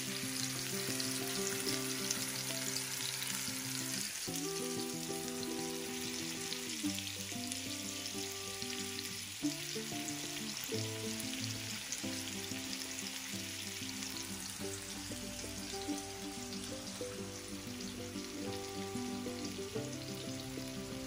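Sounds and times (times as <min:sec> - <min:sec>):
fish sizzling in oil: 0:00.0 - 0:21.0
slow sustained chords music: 0:00.0 - 0:21.0.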